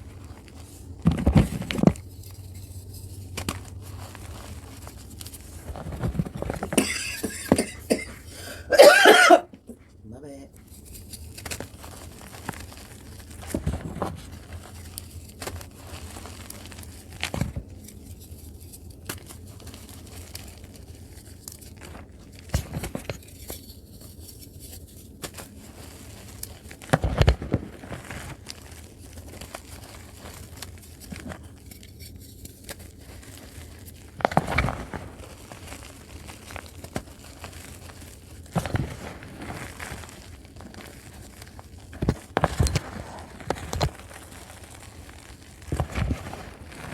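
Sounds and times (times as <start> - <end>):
chalk crunching: 0.0 - 9.8, 10.5 - 46.9
chalk crumbling crackle: 0.0 - 46.9.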